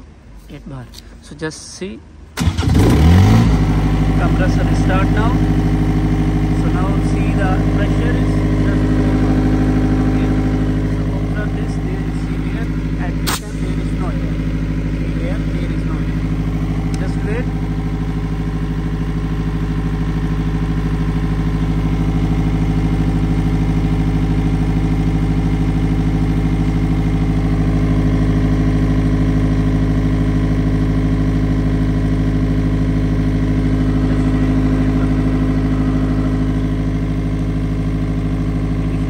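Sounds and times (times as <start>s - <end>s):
diesel engine running: 2.2s - 39.0s.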